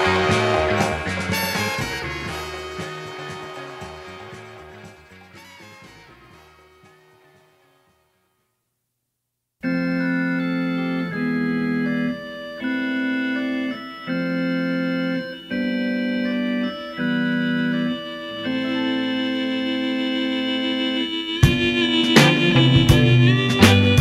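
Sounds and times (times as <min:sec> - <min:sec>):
song: 0:00.0 - 0:07.3, 0:10.2 - 0:24.0
organ playing held chords: 0:00.0 - 0:08.0, 0:09.6 - 0:24.0.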